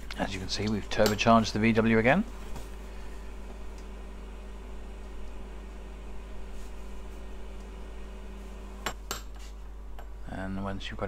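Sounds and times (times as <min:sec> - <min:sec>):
induction hob hum and hiss: 0:00.0 - 0:11.0.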